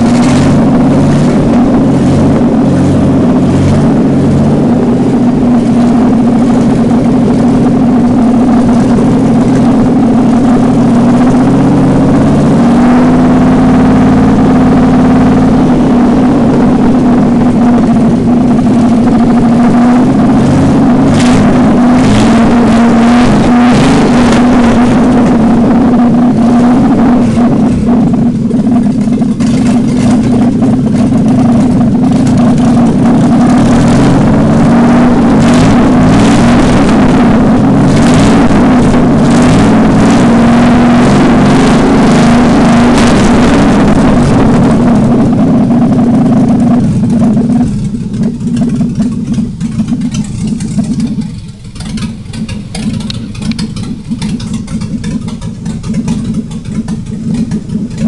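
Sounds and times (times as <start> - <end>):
engine running without exhaust: 0.0 - 58.0.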